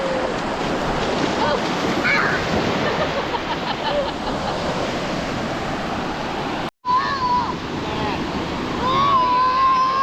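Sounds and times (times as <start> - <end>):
ocean surf washing ashore: 0.0 - 10.0.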